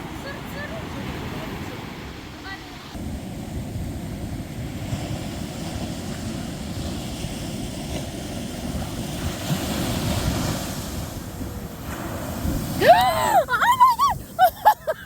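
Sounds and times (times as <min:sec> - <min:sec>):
ocean surf: 0:00.0 - 0:15.0
wave washing up sand: 0:00.0 - 0:15.0
wind on microphone: 0:02.9 - 0:15.0.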